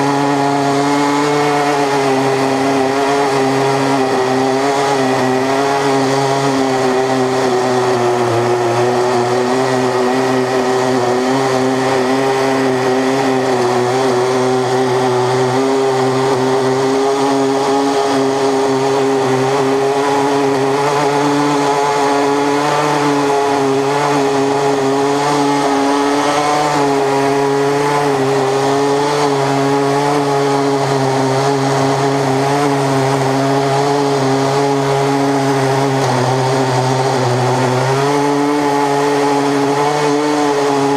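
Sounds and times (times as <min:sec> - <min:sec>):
chainsaws cutting a log: 0:00.0 - 0:40.9.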